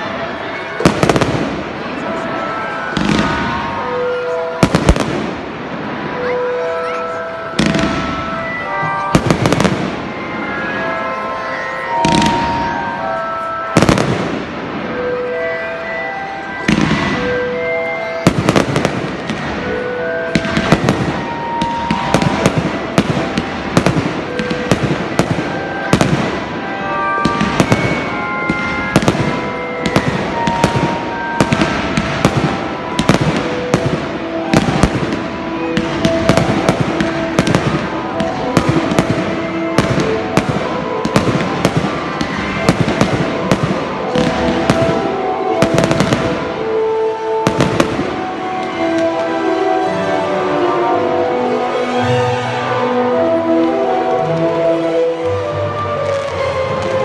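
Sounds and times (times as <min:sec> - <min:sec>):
fireworks bangs and crackles: 0:00.0 - 0:50.8, 0:53.6 - 0:57.0
music playing: 0:00.0 - 0:57.0.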